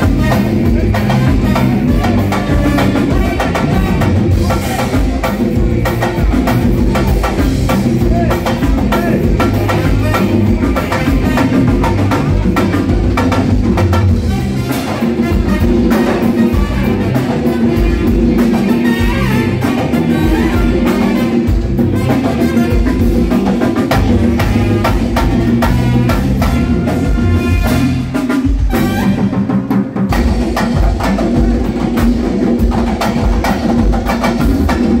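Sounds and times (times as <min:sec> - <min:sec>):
bass guitar: 0:00.0 - 0:35.0
drum kit and percussion: 0:00.0 - 0:35.0
keyboard: 0:00.0 - 0:35.0.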